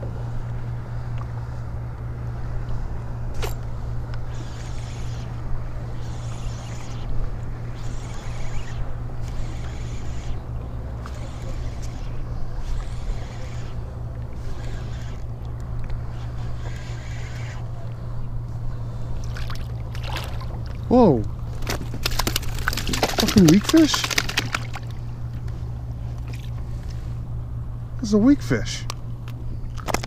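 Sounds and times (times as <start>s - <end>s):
wind and open water rumble: 0.0s - 30.0s.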